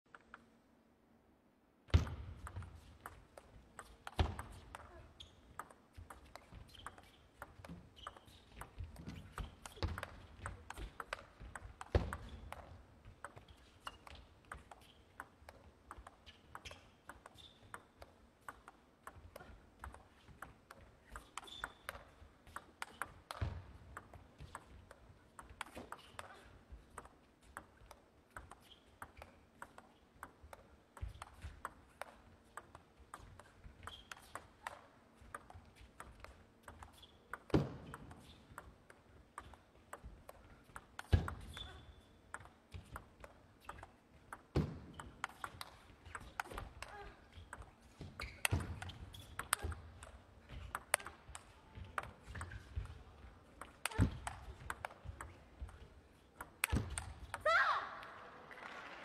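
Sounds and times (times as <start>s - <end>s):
table tennis ball clicking: 2.0s - 26.3s, 26.9s - 55.8s
hard table tennis hits: 5.5s - 53.0s.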